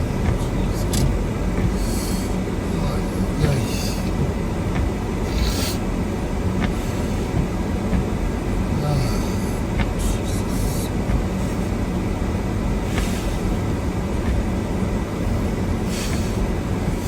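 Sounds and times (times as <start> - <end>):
vehicle engine and tyres rumbling: 0.0 - 17.0.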